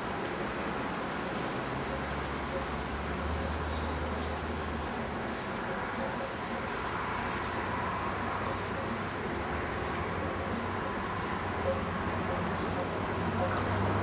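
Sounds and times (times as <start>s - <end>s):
distant road traffic: 0.0s - 14.0s.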